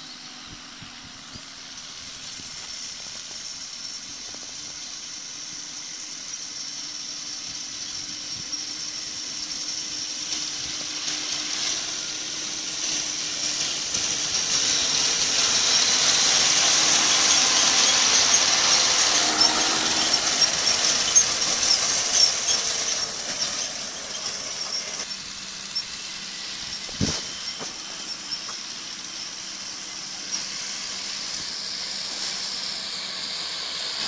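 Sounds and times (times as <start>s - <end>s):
high whine of mower discs: 0.0s - 34.0s
tractor engine running: 0.0s - 34.0s.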